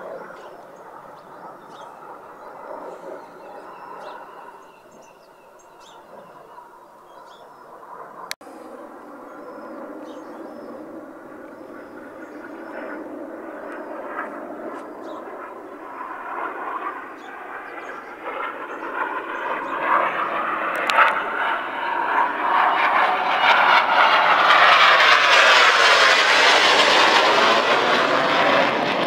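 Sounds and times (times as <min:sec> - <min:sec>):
jet flying past low: 0:00.0 - 0:29.0.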